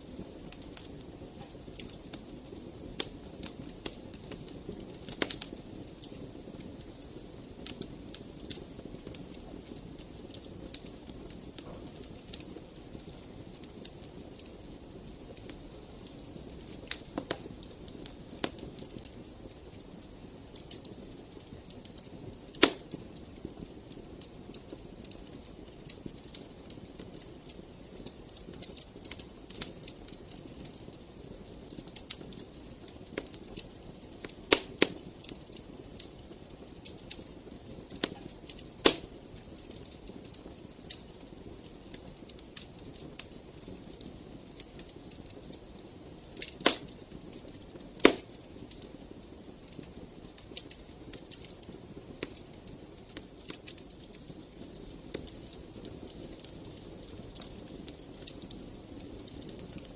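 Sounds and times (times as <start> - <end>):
loud fire pops: 0.0 - 31.0, 31.6 - 45.4, 46.3 - 48.9, 49.7 - 59.9
wood fire crackling: 0.0 - 59.9.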